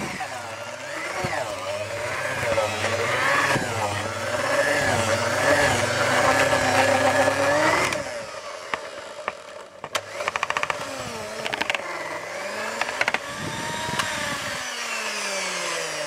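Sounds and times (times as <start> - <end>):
electric hand mixer motor: 0.0 - 16.0.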